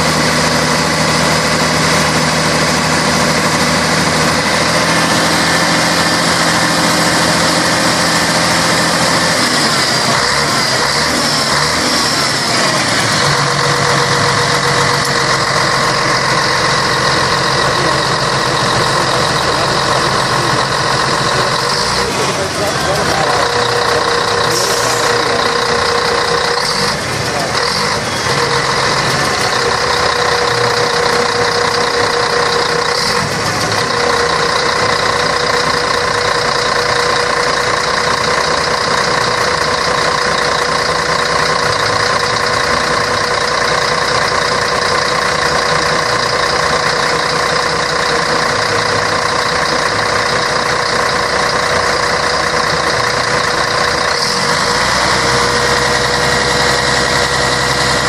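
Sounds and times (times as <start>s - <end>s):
constant whine: 0.0s - 58.0s
diesel bus engine running: 0.0s - 58.0s.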